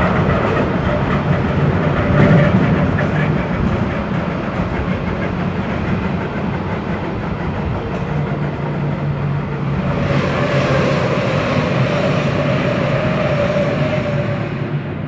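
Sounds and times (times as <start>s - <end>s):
oncoming train passing: 0.0s - 15.0s
wheel and rail noise: 0.0s - 15.0s.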